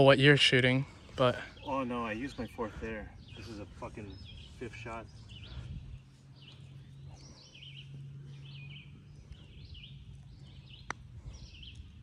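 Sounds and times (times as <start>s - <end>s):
bird chirping: 0.0s - 12.0s
low steady rumble: 0.1s - 12.0s.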